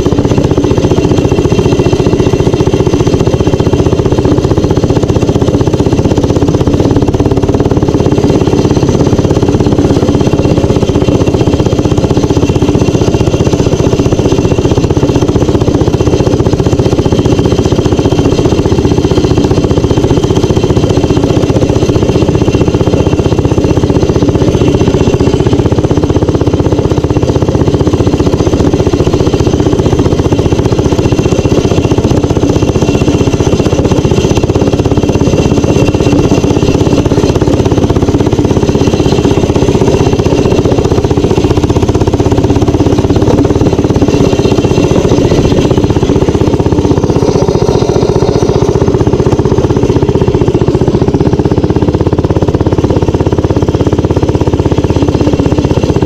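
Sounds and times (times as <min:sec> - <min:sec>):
minibike engine running: 0:00.0 - 0:56.0.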